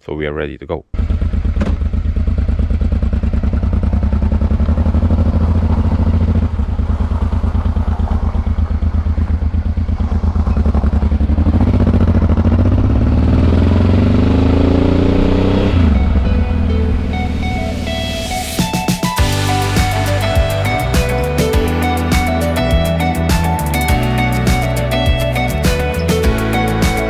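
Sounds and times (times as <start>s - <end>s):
motorcycle engine idling and accelerating: 0.9s - 27.0s.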